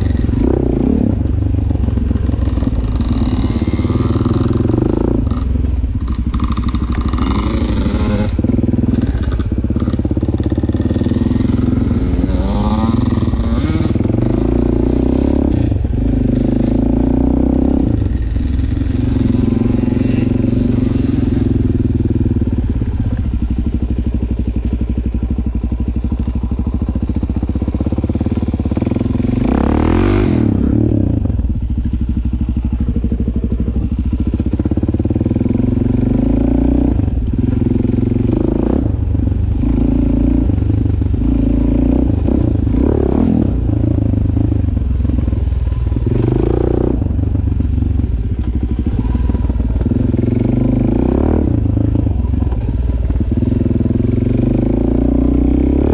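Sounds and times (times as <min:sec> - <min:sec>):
dirt bike engine revving: 0:00.0 - 0:23.0, 0:27.6 - 0:31.4, 0:35.2 - 0:47.4, 0:48.1 - 0:55.9.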